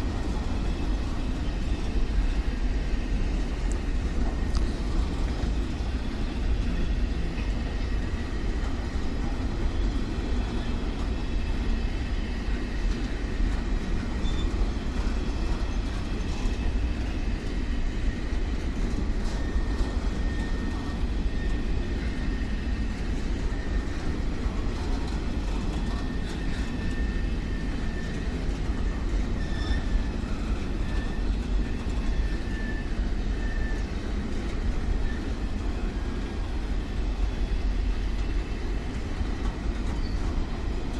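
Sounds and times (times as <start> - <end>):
train rumbling past: 0.0 - 40.9.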